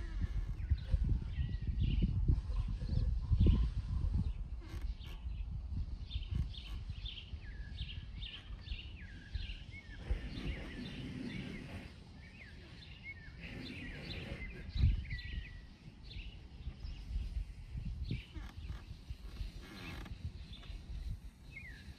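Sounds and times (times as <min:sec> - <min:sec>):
songbirds chirping and whistling: 0:00.0 - 0:21.9.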